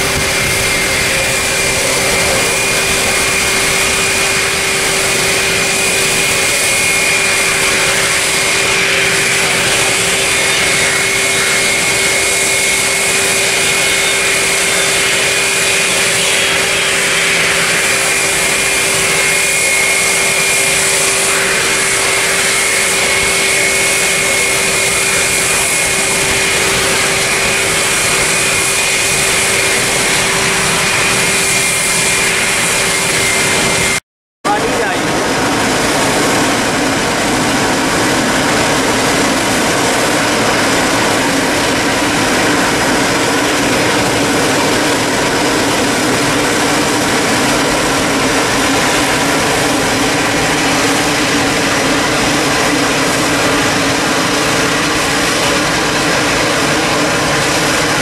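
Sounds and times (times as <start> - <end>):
jet engines roaring with high whine: 0.0 - 58.0.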